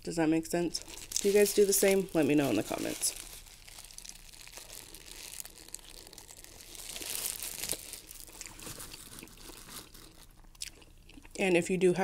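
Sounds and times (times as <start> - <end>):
wrapper paper crinkling: 0.8 - 10.5.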